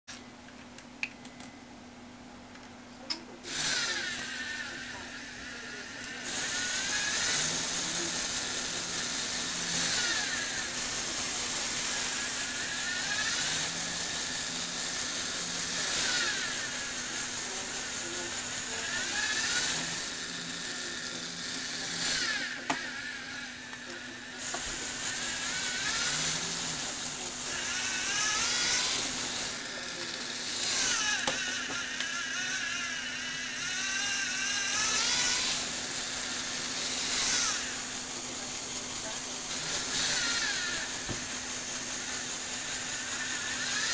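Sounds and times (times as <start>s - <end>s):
small electric motor whining: 3.4s - 43.9s.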